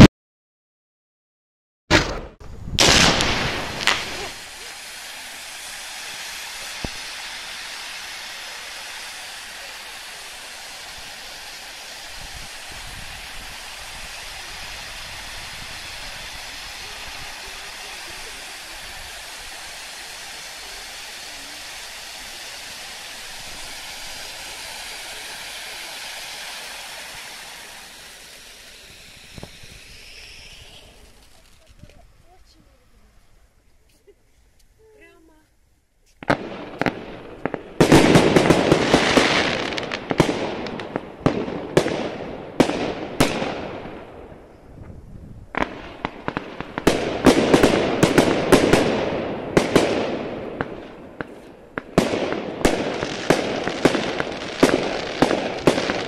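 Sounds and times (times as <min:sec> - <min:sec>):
fountain sparks hissing: 0:02.8 - 0:33.5, 0:36.4 - 0:44.6, 0:45.5 - 0:56.0.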